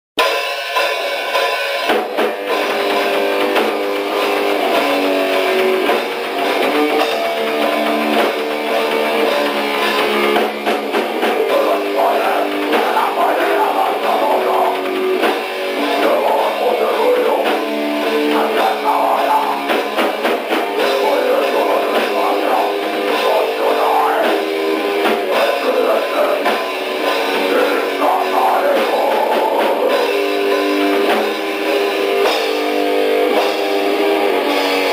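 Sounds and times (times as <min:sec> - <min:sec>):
drums playing: 0:00.2 - 0:34.9
electric guitar: 0:00.2 - 0:34.9.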